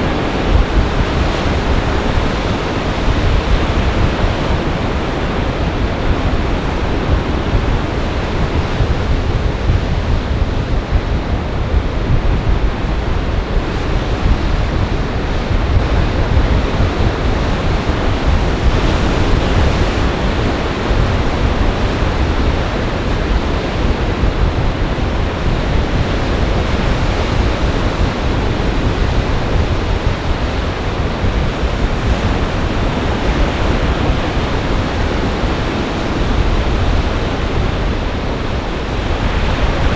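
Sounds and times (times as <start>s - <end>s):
waves breaking: 0.0s - 9.2s, 11.4s - 39.9s
wind: 0.0s - 39.9s
wind buffeting microphone: 0.0s - 39.9s.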